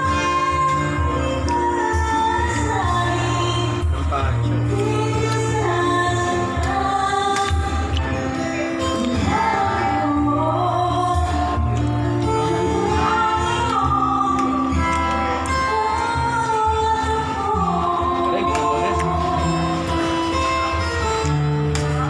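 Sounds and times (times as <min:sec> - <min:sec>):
woman singing: 0:00.0 - 0:03.9, 0:04.5 - 0:20.6.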